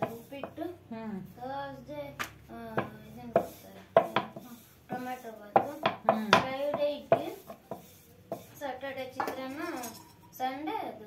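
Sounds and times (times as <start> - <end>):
rolling pin on dough: 0.0 - 9.8.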